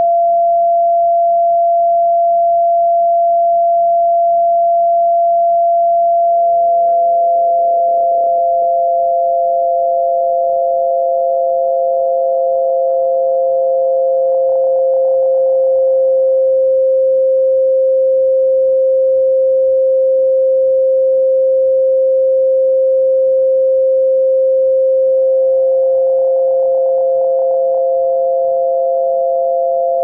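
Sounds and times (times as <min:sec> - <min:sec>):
higher electronic sine tone: 0:00.0 - 0:30.0
lower electronic sine tone: 0:00.0 - 0:30.0.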